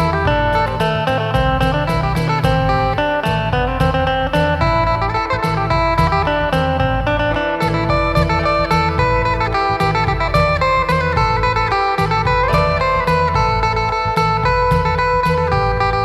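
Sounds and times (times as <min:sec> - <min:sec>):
plucked lute melody: 0:00.0 - 0:16.0.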